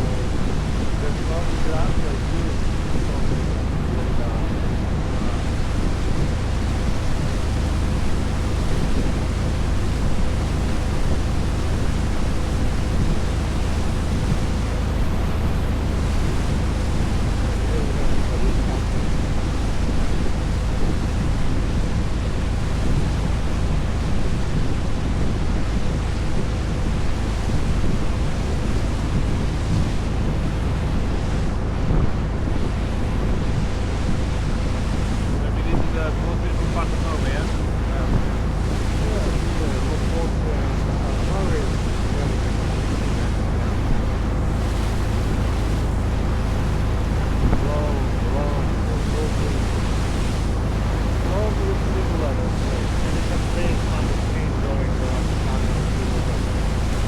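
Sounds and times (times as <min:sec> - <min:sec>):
motorboat engine running: 0:00.0 - 0:57.0
water rushing along hull: 0:00.0 - 0:57.0
wind buffeting microphone: 0:00.0 - 0:57.0.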